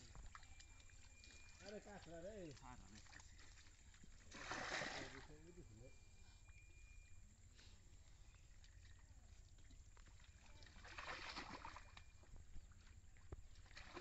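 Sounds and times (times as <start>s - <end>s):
muddy water sloshing: 0.0s - 6.6s, 8.0s - 14.0s.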